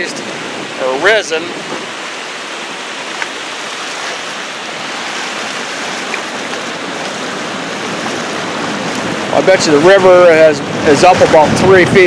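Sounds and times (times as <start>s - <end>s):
water rushing through dam: 0.0s - 12.0s.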